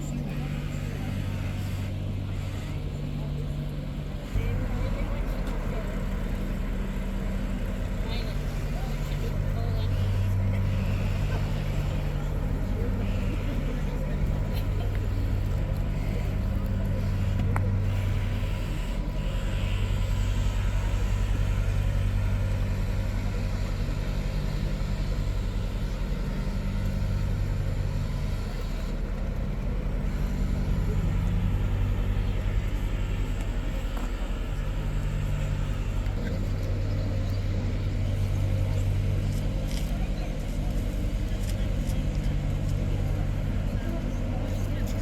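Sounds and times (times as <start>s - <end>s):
low rumbling hum: 0.0s - 45.0s.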